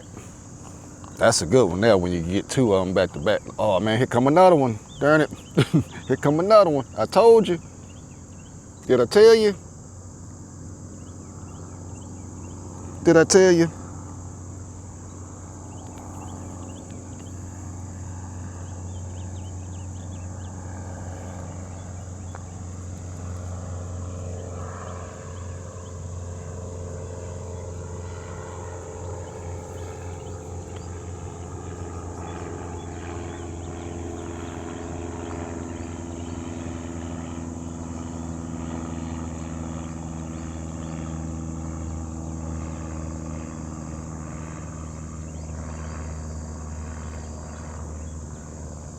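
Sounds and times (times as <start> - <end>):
aircraft passing overhead: 0.0 - 48.9.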